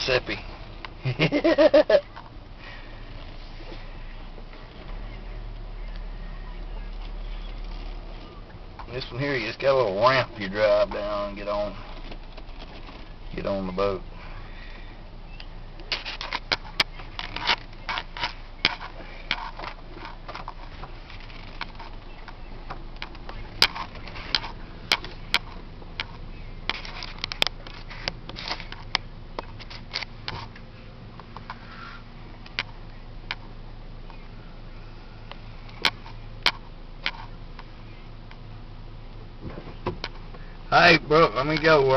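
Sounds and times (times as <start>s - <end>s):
engine humming from inside cab: 0.0s - 41.9s.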